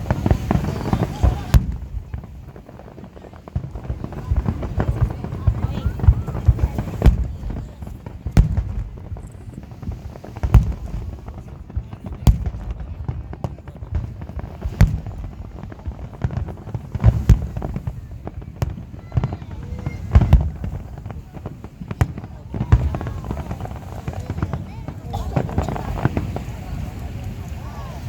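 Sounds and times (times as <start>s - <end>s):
underwater fireworks bangs: 0.0s - 28.0s.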